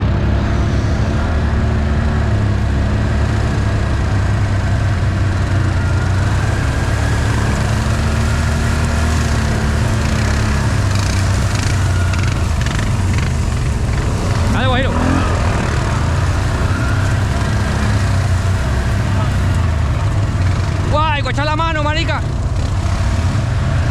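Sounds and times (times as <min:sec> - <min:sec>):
off-road vehicle engine running: 0:00.0 - 0:23.9.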